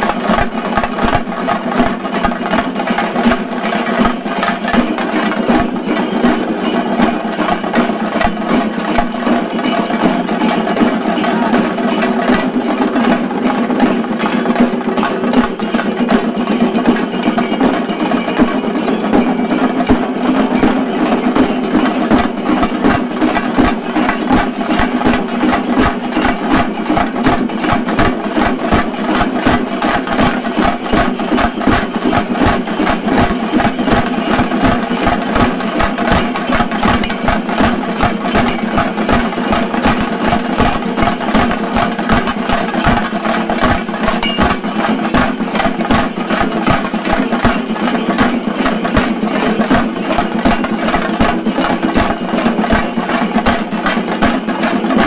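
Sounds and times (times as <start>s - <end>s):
drums playing fast rhythm: 0.0s - 55.0s.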